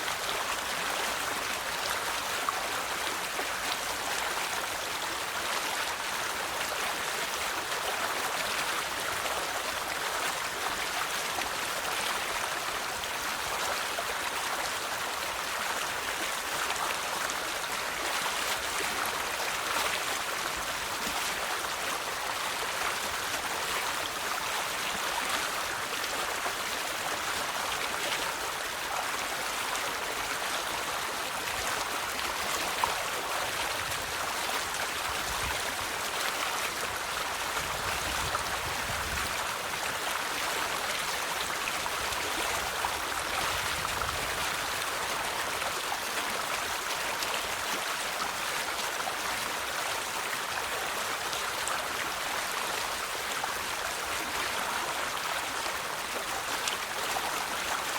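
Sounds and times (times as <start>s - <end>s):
river water flowing over stones: 0.0s - 57.9s.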